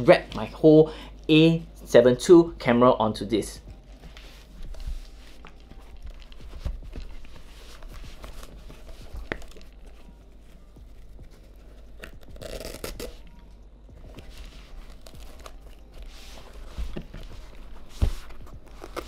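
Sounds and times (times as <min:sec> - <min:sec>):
cloth wrap rustling and scraping: 0:03.7 - 0:19.0.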